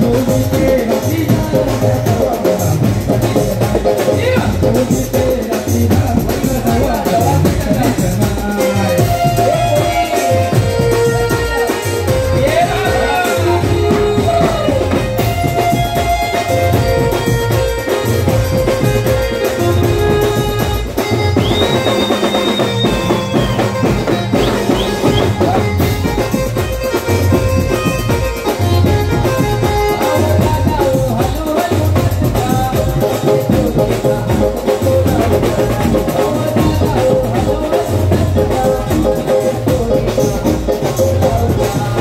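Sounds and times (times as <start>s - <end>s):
drums beating: 0.0s - 42.0s
live band music: 0.0s - 42.0s.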